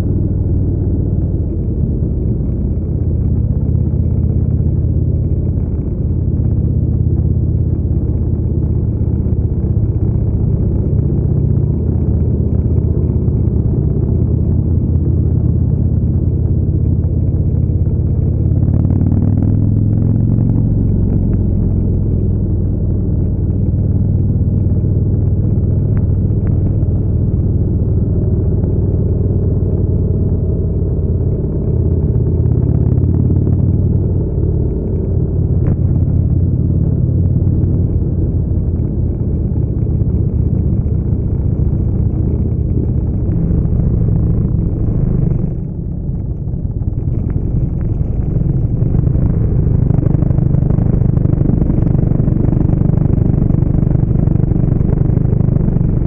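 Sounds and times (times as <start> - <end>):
motorcycle engine cruising: 0.0 - 56.0
wind noise on microphone: 0.0 - 56.0.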